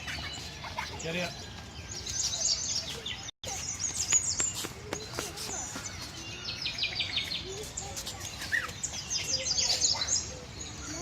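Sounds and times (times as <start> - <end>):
small birds chirping and twittering: 0.0 - 11.0.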